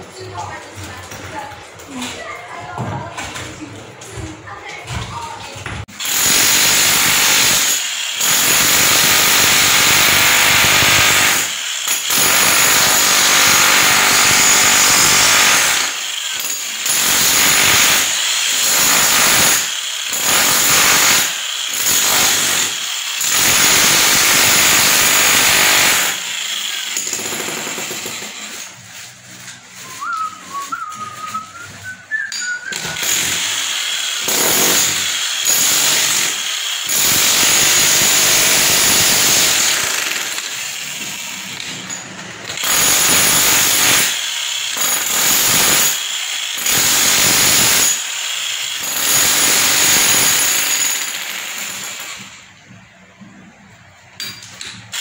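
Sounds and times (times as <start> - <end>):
demolition hammer chiselling masonry: 4.6 - 29.0, 30.1 - 52.4.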